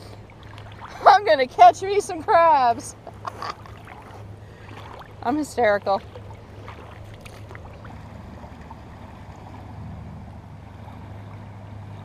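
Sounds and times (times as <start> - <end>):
seashore low rumble: 0.0 - 12.0.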